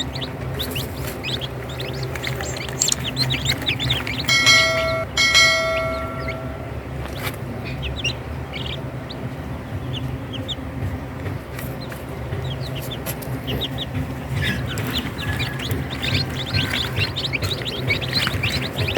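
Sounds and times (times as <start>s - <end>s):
chicks peeping: 0.0s - 18.9s
steady low hum: 0.0s - 18.9s.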